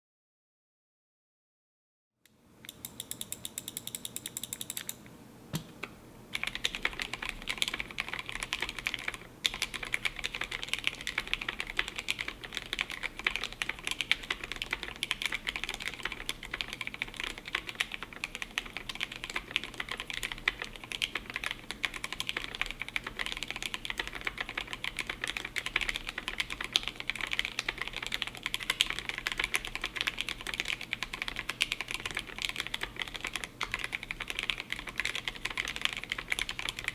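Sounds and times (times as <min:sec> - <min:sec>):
mechanical keyboard typing: 0:02.7 - 0:05.0, 0:06.3 - 0:36.9.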